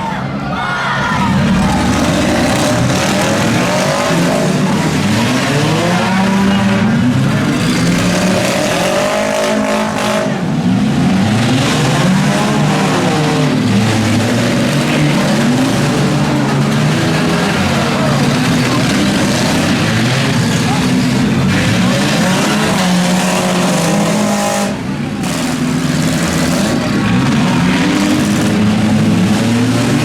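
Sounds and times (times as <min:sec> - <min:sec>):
car engines revving hard: 0:00.0 - 0:30.0.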